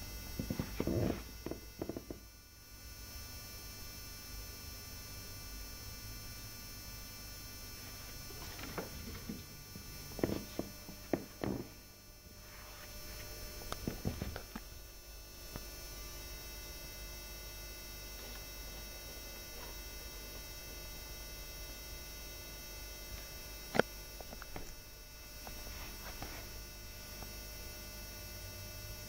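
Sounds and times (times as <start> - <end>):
steady electrical hum: 0.0 - 29.0.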